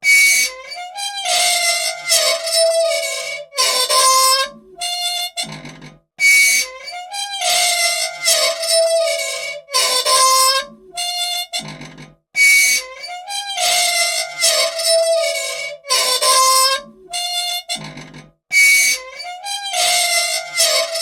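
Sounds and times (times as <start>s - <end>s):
machine parts squealing: 0.1s - 21.0s.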